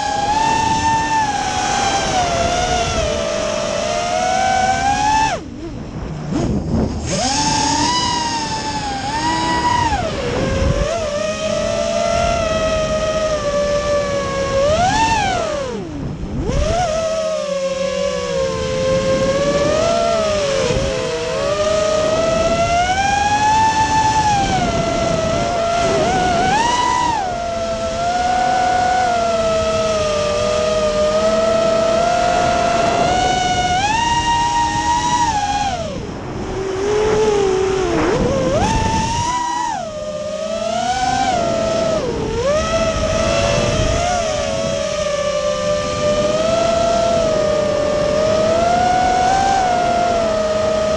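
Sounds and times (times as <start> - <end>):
drone motors whining: 0.0 - 50.9.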